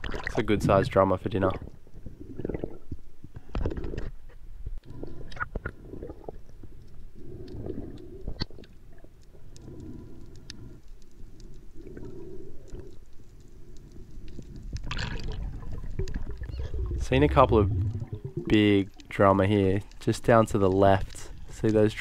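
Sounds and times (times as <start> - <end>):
muffled underwater movement: 0.0 - 22.0.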